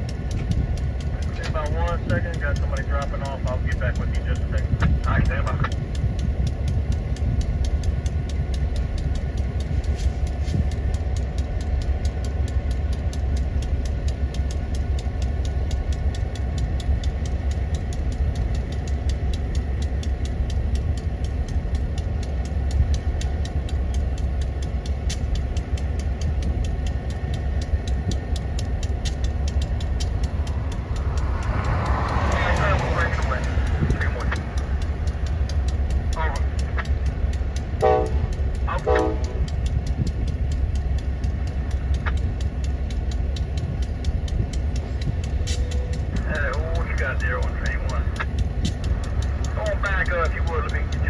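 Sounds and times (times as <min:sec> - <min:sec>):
diesel locomotive engine idling: 0:00.0 - 0:51.0.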